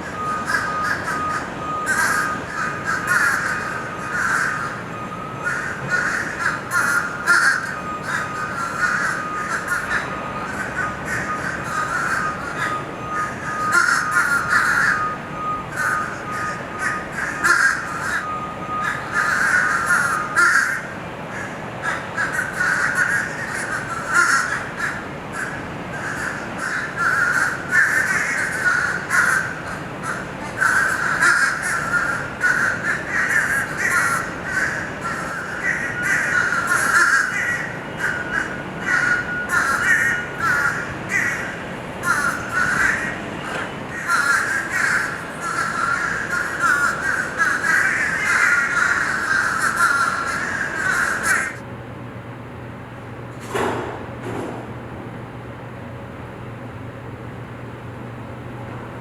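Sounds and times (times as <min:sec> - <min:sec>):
crows cawing: 0:00.0 - 0:51.6.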